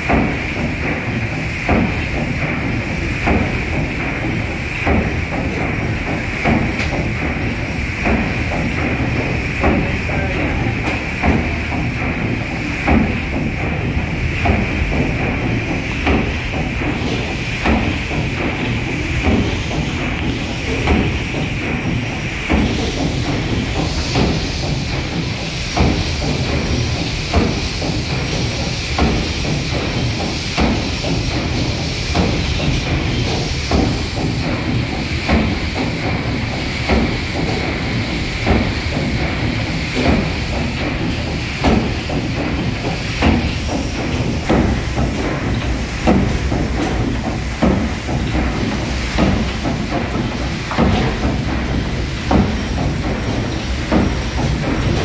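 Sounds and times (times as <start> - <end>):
steam engine rhythmic clanking: 0.0 - 55.0
steam hiss: 0.0 - 55.0.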